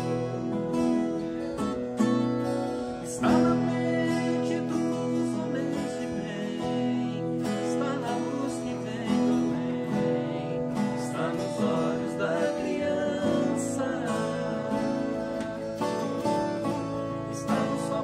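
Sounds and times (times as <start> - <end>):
man singing: 0.0 - 1.2, 3.0 - 18.0
acoustic guitars playing: 0.0 - 18.0.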